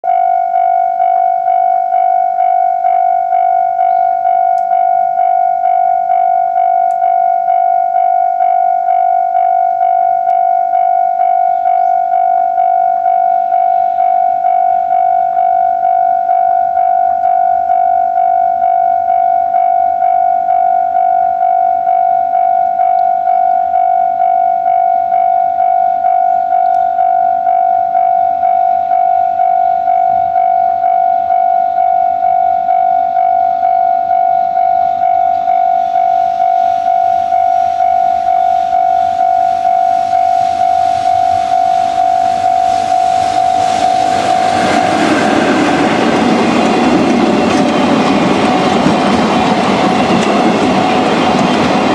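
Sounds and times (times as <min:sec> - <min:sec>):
level-crossing warning bell: 0:00.0 - 0:51.9.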